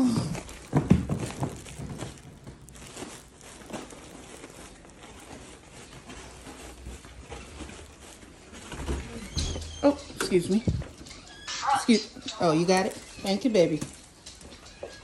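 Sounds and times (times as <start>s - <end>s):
plastic bag rustling: 0.0s - 15.0s
soft footsteps: 0.0s - 15.0s.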